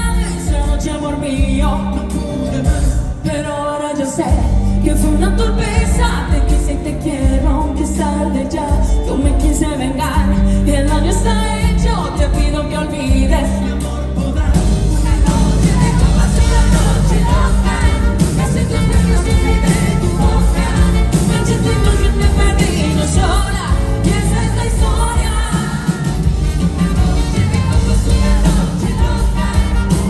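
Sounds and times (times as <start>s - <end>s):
amplified band with bass: 0.0s - 30.0s
woman singing into microphone: 0.0s - 30.0s.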